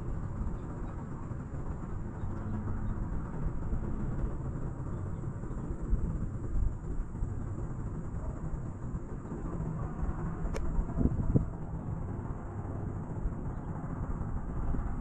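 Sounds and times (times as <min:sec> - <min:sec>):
cable car gondola rumble: 0:00.0 - 0:15.0.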